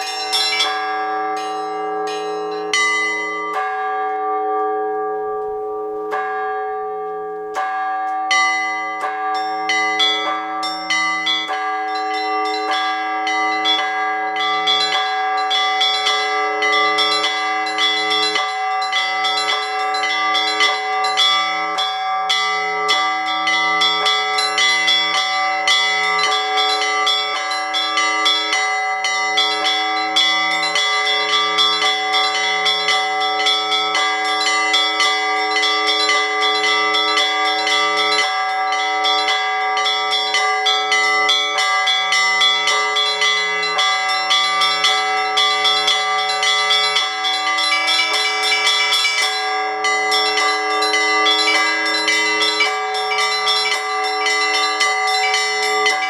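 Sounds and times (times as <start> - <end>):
small bells struck rapidly: 0.0 - 4.0, 7.6 - 56.0
low bell pulsing: 0.0 - 23.2, 30.2 - 56.0
large bells ringing: 0.0 - 56.0.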